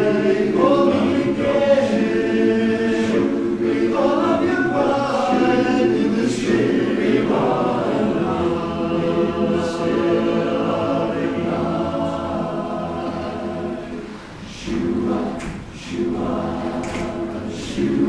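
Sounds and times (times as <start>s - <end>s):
chorus singing a cappella: 0.0s - 18.0s.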